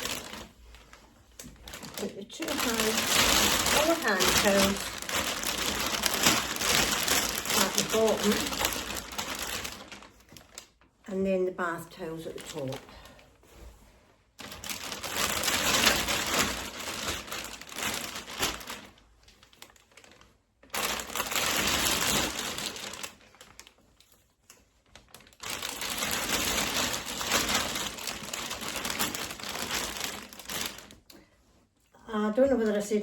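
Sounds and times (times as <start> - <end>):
plastic bag rustling and crinkling: 0.0 - 33.0.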